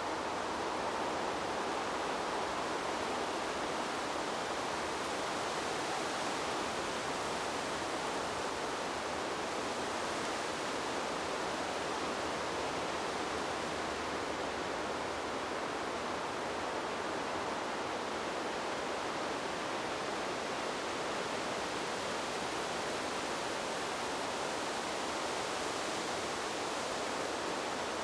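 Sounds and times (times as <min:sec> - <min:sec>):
wind blowing through trees: 0:00.0 - 0:28.0.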